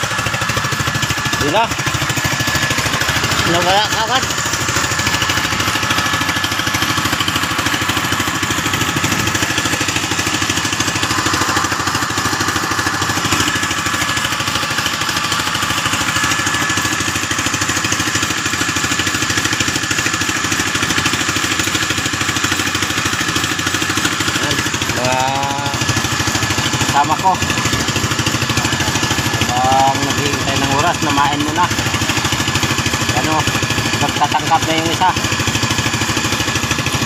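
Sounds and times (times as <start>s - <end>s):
small boat engine running: 0.0s - 37.0s.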